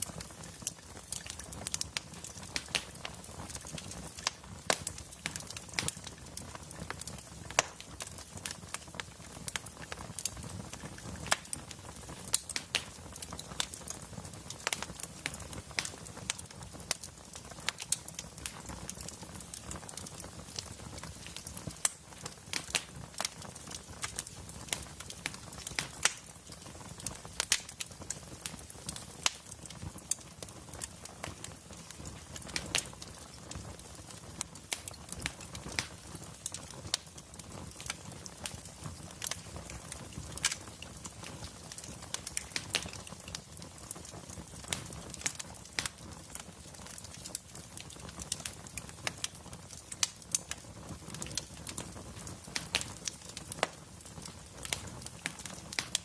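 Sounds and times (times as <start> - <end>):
low rumble of burning logs: 0.0 - 56.0
wood fire crackling: 0.0 - 56.0.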